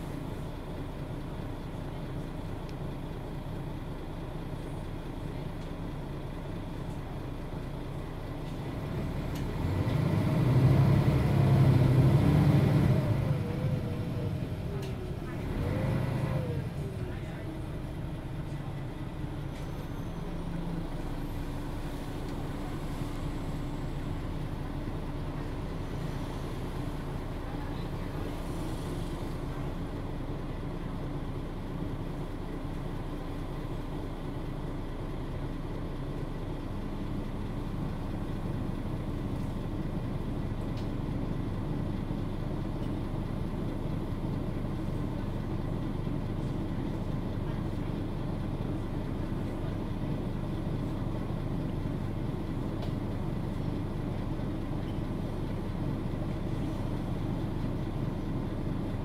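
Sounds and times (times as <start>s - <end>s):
bus diesel engine drone: 0.0s - 59.0s
road rumble: 0.0s - 59.0s.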